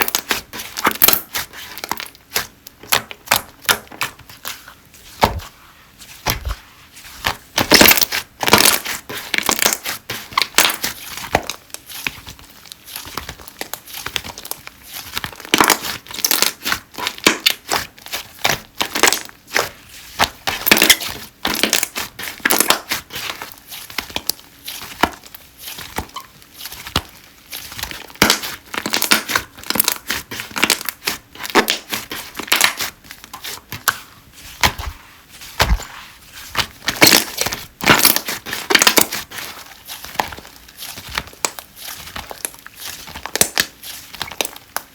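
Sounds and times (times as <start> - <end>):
slime popping and crackling: 0.0 - 4.5, 7.6 - 34.0, 36.5 - 44.9.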